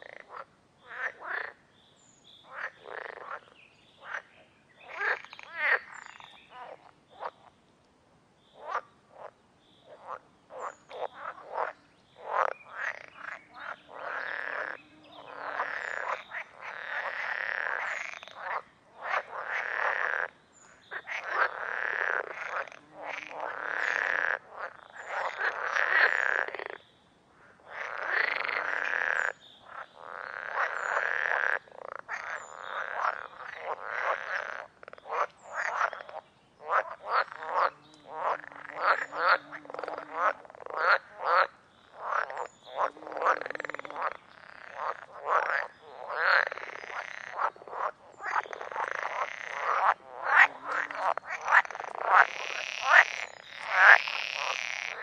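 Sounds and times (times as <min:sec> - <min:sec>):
frogs croaking: 0:00.0 - 0:07.6, 0:08.4 - 0:55.0.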